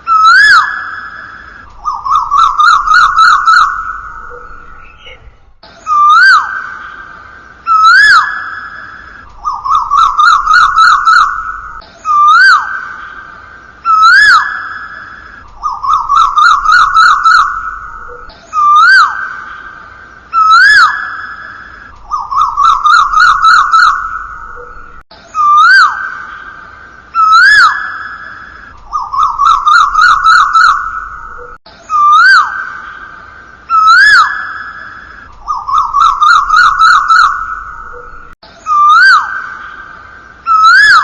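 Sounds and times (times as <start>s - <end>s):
whistled bird-like call: 0.0s - 41.0s.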